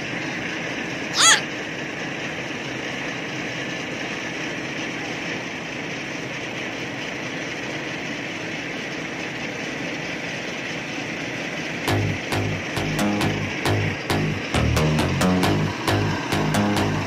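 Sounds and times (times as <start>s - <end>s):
machine engine droning: 0.0s - 17.0s.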